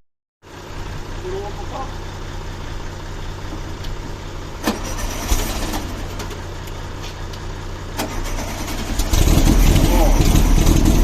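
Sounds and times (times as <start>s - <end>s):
car engine idling: 0.4s - 11.0s.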